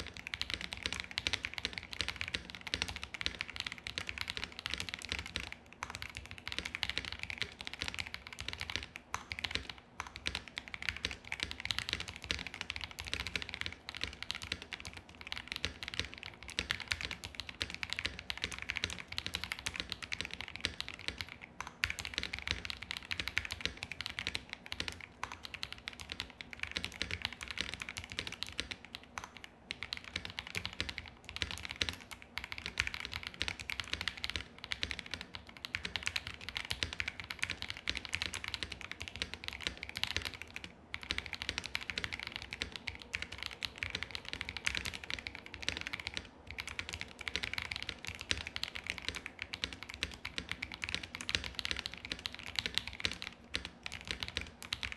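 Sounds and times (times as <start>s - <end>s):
fast mechanical keyboard typing: 0.0s - 54.9s.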